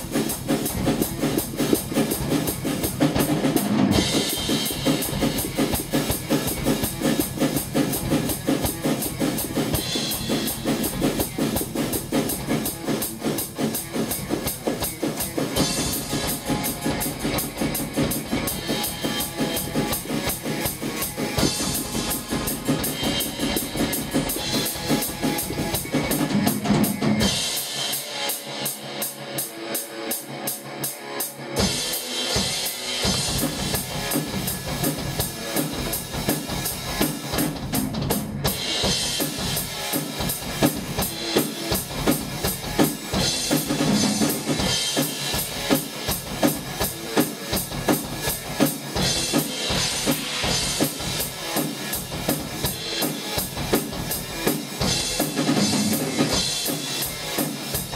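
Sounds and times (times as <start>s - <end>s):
bass drum: 0.0s - 27.5s, 32.4s - 57.9s.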